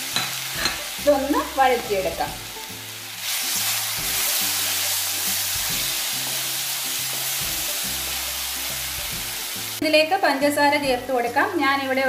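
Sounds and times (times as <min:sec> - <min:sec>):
food sizzling in hot ghee: 0:00.0 - 0:12.0
soft background music: 0:00.0 - 0:12.0.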